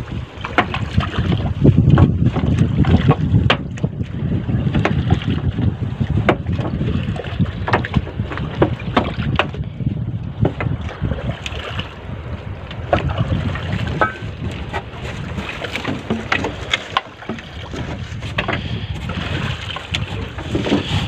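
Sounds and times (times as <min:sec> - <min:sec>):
water splashing and dripping: 0:00.0 - 0:21.0
wind buffeting microphone: 0:00.0 - 0:21.0.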